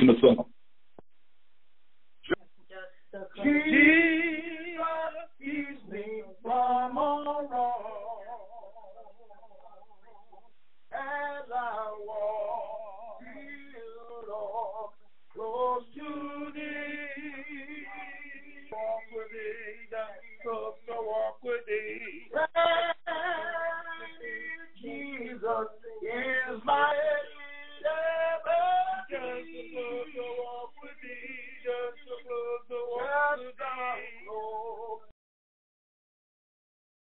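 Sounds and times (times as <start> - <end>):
people singing a hymn: 3.2 - 8.7, 10.9 - 35.1.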